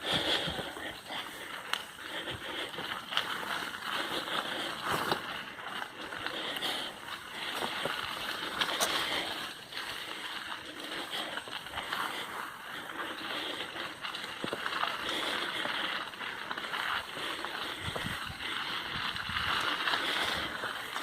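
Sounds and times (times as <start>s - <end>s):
bike clicks and rattles: 0.0s - 21.0s
bike tyres crunching on dirt: 0.0s - 21.0s.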